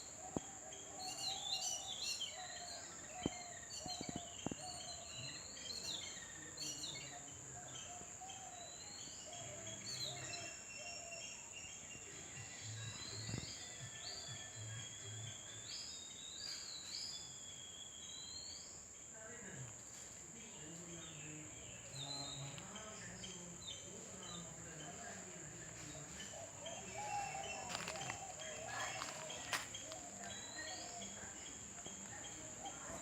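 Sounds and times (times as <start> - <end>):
faint low voices: 0.0 - 15.8, 19.1 - 33.0
insects droning: 0.0 - 33.0.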